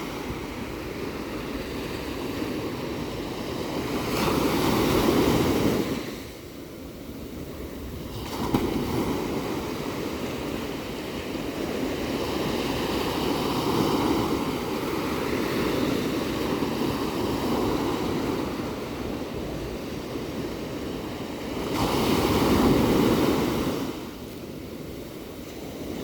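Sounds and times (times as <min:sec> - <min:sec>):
ocean waves washing: 0:00.0 - 0:26.0.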